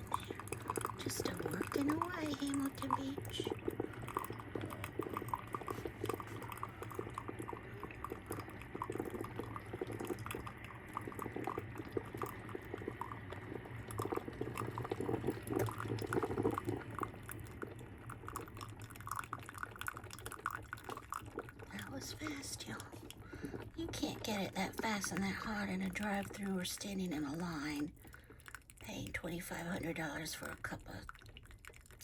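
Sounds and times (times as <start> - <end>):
coffee maker gurgling: 0.0 - 32.0
low steady hum: 0.0 - 32.0.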